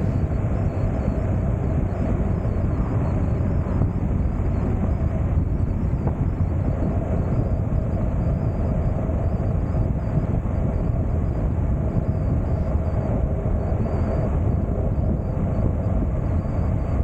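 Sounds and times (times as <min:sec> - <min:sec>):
wind rush on microphone: 0:00.0 - 0:17.0.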